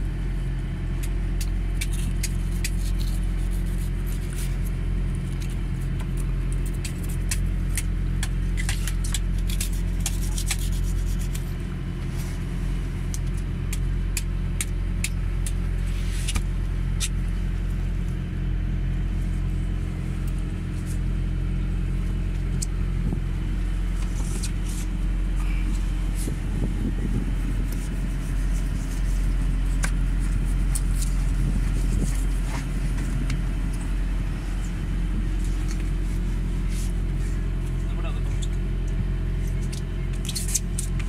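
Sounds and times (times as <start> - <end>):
boat engine droning: 0.0 - 41.0.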